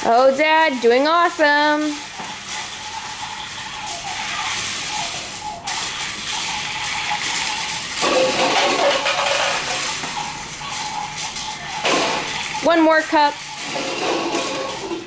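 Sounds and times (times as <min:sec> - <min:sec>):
toy vehicle electric motor whirring: 0:00.2 - 0:15.0.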